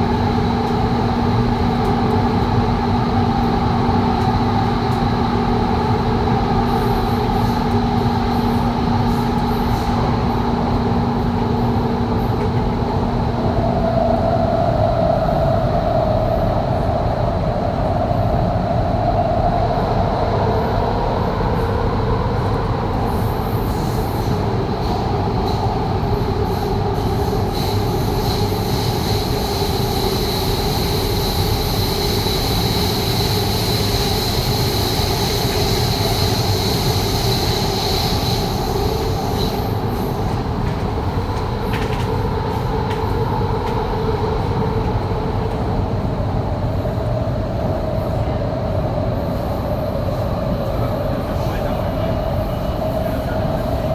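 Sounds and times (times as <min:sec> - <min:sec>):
train wheels rumbling: 0:00.0 - 0:53.9.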